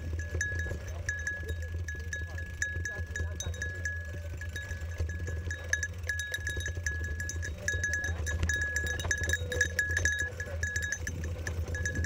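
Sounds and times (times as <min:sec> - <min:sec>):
high ringing tone: 0:00.0 - 0:12.0
mountain bike rattling over bumps: 0:00.0 - 0:12.0
tyres rumbling on dirt trail: 0:00.0 - 0:12.0.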